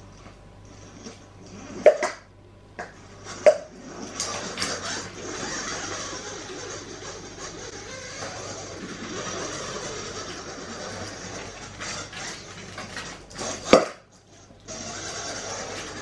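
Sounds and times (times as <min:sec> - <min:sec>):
ball rolling across floor: 0:00.1 - 0:16.0.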